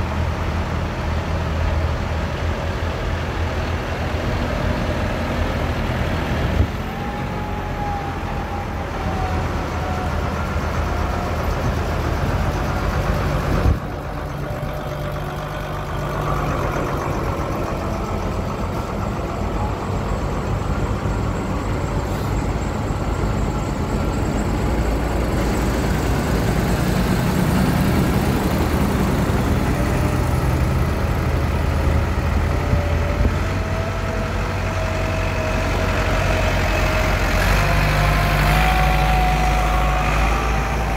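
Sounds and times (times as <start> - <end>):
tractors driving past: 0.0 - 40.9.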